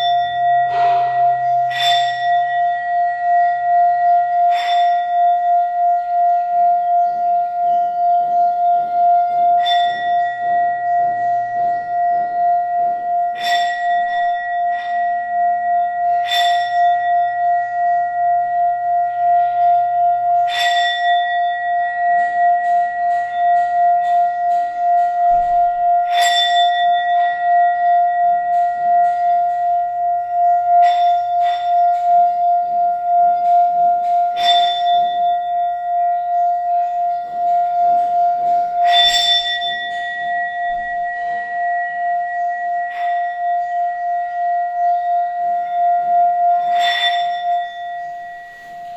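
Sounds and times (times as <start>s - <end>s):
mallet striking bowl: 0.0s - 48.9s
singing bowl ringing: 0.0s - 48.9s.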